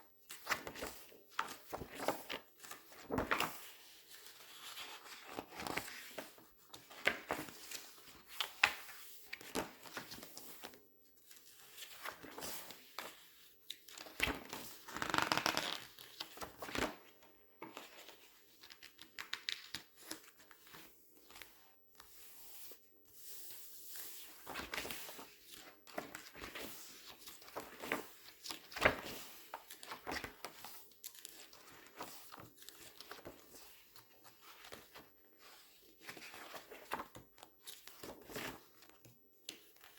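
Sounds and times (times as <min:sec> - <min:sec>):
glossy paper pages rustling: 0:00.3 - 0:16.9, 0:17.6 - 0:39.9.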